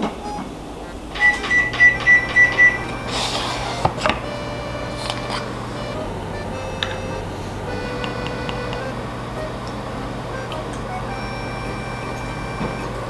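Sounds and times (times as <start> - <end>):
appliance low hum: 0.0 - 13.0
kitchen appliance beeping: 0.0 - 13.0.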